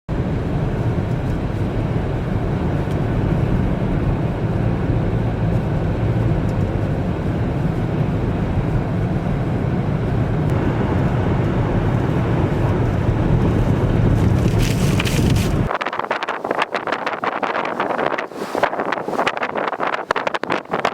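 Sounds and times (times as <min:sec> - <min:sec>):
blizzard wind: 0:00.1 - 0:20.9
tyre noise on highway: 0:00.1 - 0:20.9.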